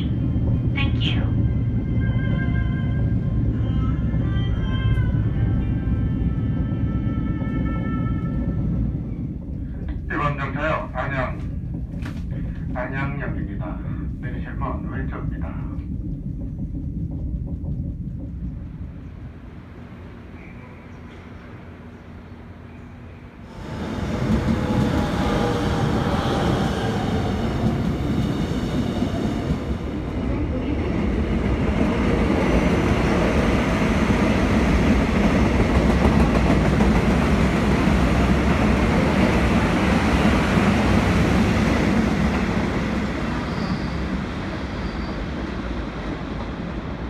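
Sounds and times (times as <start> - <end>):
train rumbling along track: 0.0 - 47.0.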